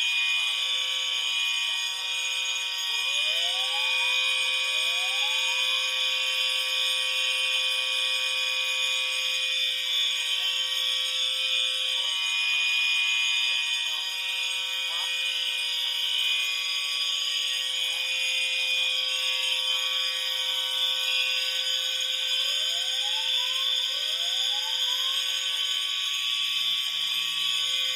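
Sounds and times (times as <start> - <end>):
rising alarm sweeps: 0.0 - 13.2, 13.8 - 27.9
low fire alarm horn tone: 0.0 - 27.9
shrill high electronic tone: 0.0 - 27.9.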